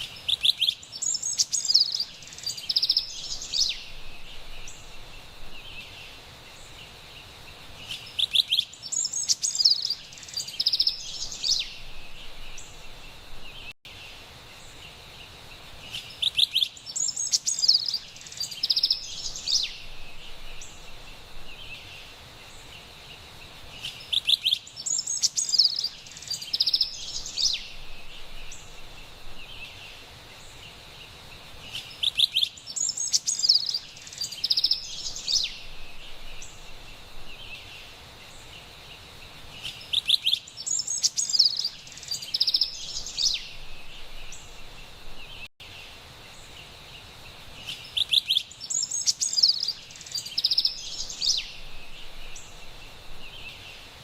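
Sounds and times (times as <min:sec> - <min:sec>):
wren singing: 0:00.0 - 0:07.0, 0:07.8 - 0:13.8, 0:15.8 - 0:22.9, 0:23.6 - 0:30.7, 0:31.6 - 0:45.5, 0:47.6 - 0:53.9
faint high hiss: 0:00.0 - 0:54.0.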